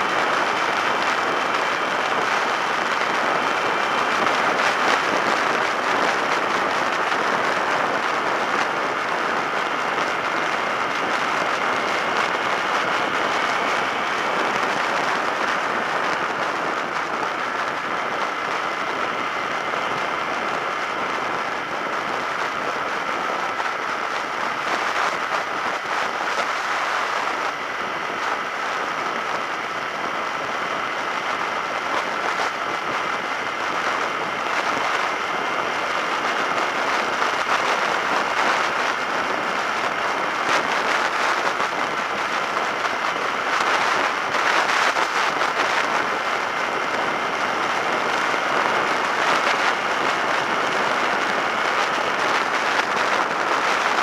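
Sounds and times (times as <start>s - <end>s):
wind rush over microphone: 0.0s - 54.0s.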